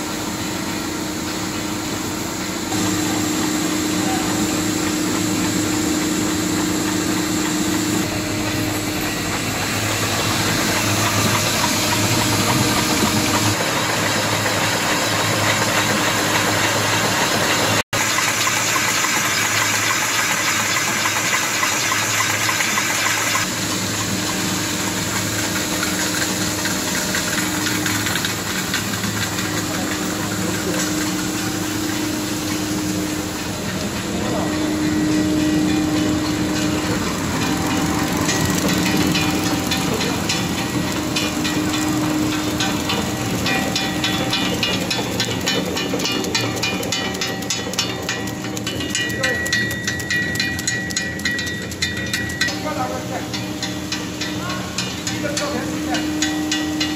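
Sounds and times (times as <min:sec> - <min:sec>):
machinery humming: 0:00.0 - 0:56.9.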